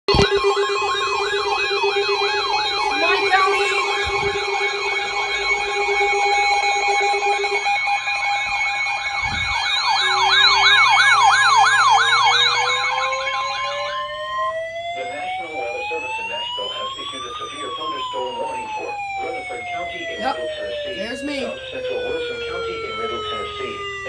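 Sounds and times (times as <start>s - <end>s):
electronic sirens sweeping: 0.0s - 24.0s
low rising tone: 0.1s - 24.0s.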